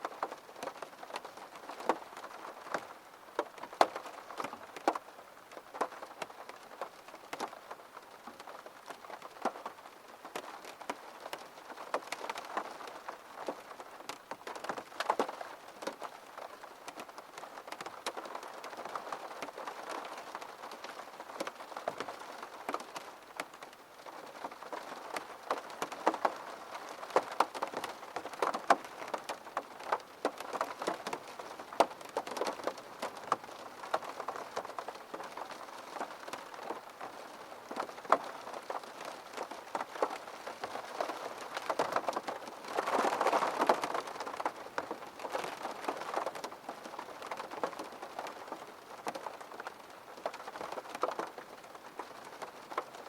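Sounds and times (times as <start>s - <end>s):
rain striking a window: 0.0s - 53.0s.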